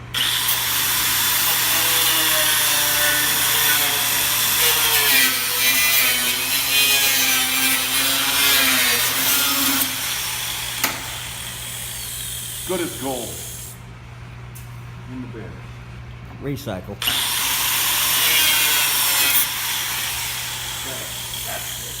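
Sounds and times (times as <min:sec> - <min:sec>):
angle grinder cutting metal: 0:00.1 - 0:13.8, 0:17.0 - 0:22.0.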